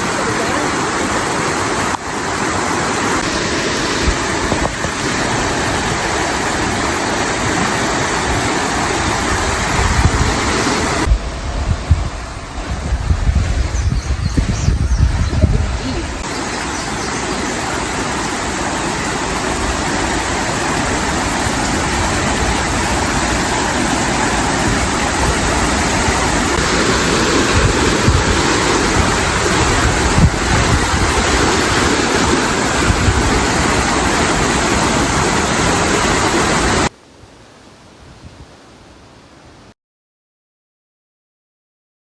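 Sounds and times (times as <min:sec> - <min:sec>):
rapids rushing: 0:00.0 - 0:39.6.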